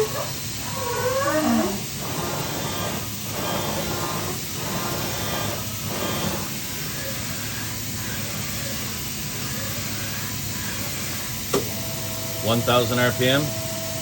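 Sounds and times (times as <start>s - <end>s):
machining center humming and hissing: 0.0s - 14.0s.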